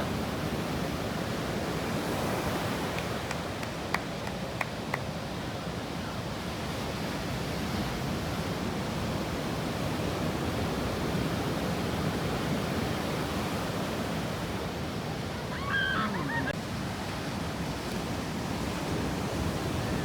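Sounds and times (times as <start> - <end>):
ocean surf breaking: 0.0 - 20.0.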